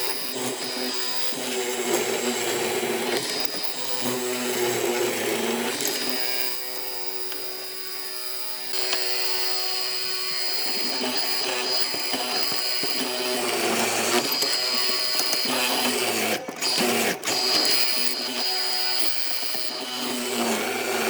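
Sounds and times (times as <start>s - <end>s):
power tool motor whining: 0.0s - 21.0s.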